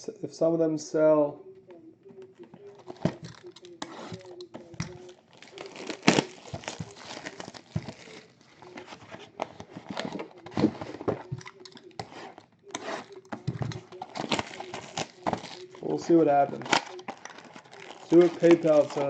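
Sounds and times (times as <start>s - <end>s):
packaging crinkling and rustling: 2.2s - 19.0s.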